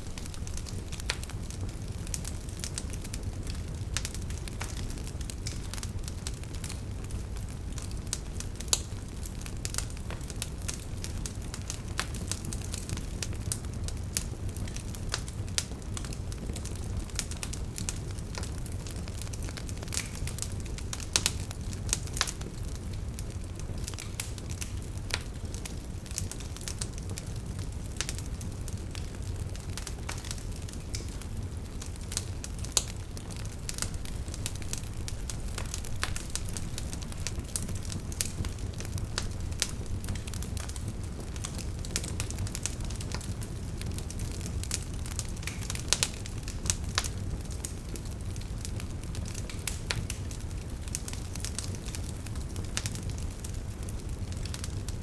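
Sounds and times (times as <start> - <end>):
fire rumbling: 0.0 - 55.0
wood fire crackling and popping: 0.0 - 55.0.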